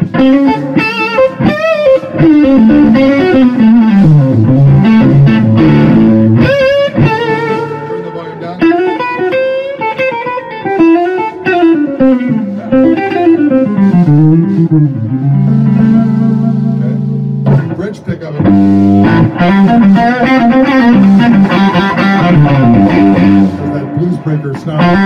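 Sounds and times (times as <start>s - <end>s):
electric guitar lead lines: 0.0s - 25.0s.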